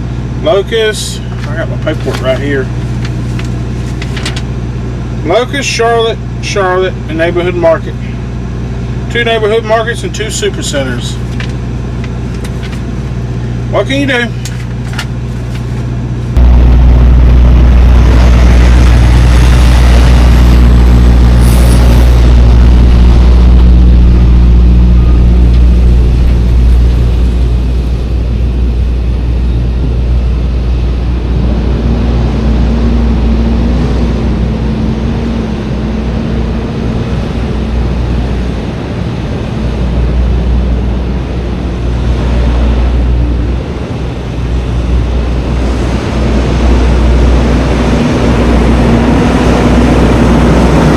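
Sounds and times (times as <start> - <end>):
road noise: 0.0 - 5.6, 7.7 - 50.9
diesel engine drone: 0.0 - 50.9.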